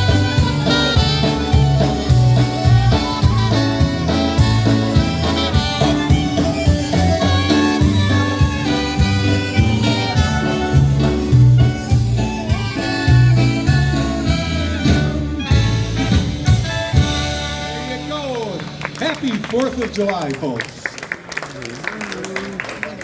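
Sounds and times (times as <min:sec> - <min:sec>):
polka band playing: 0:00.0 - 0:20.5.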